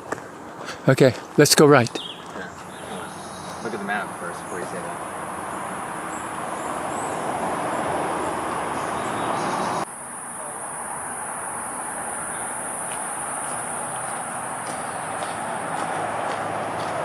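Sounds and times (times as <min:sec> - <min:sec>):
rushing background noise: 0:00.0 - 0:17.0
insect chorus: 0:00.8 - 0:17.0.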